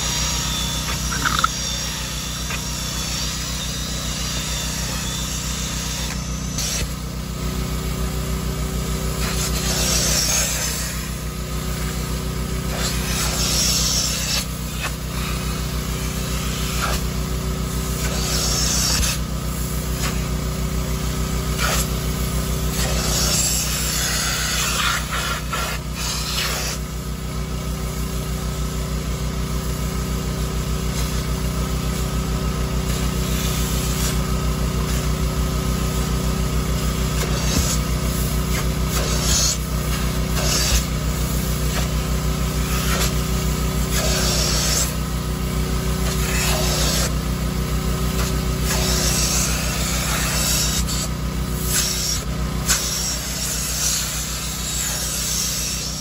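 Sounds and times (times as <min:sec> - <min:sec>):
vacuum motor droning: 0:00.0 - 0:56.0.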